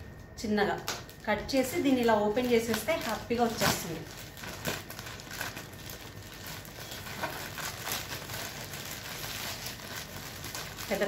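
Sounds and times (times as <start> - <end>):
plastic mailer bag crinkling: 1.0 - 11.0.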